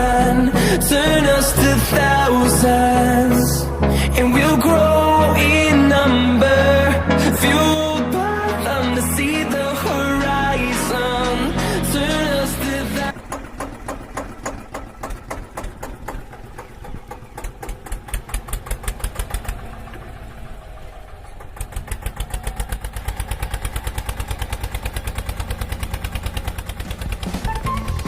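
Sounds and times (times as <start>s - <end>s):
tractor diesel engine pulsing: 0.0s - 28.0s.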